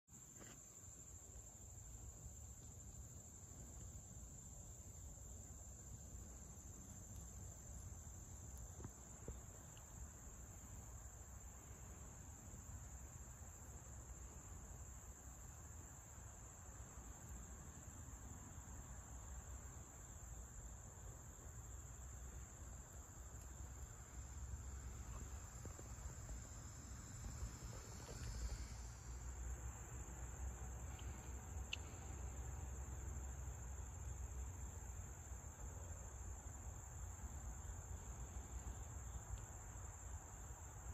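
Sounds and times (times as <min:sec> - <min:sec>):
insect high-pitched trill: 0:00.2 - 0:40.9.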